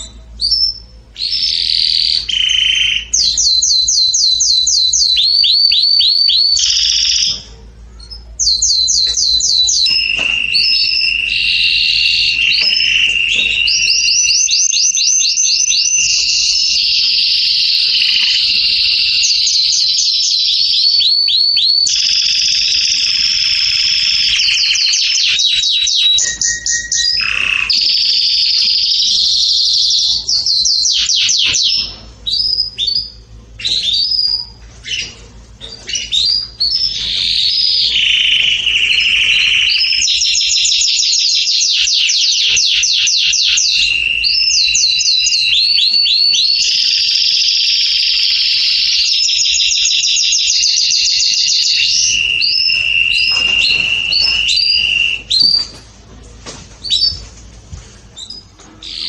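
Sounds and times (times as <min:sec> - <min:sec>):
canary singing trills: 0:00.0 - 0:55.8, 0:56.8 - 0:57.3, 0:58.1 - 0:59.0.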